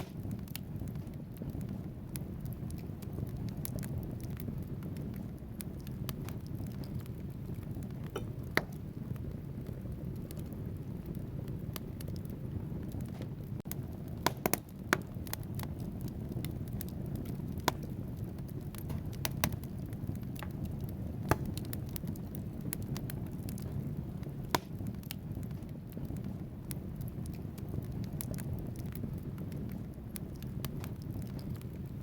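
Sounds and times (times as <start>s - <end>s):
fire flames rumbling: 0.0s - 32.0s
logs crackling and popping: 0.0s - 32.0s.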